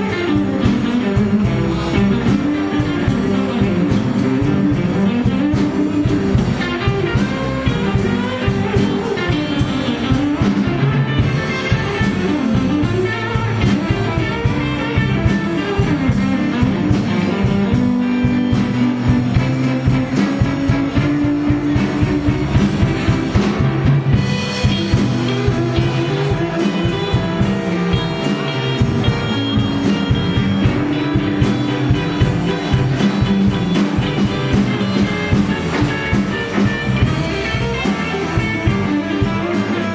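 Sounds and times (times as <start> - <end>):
live blues band playing: 0.0 - 39.9.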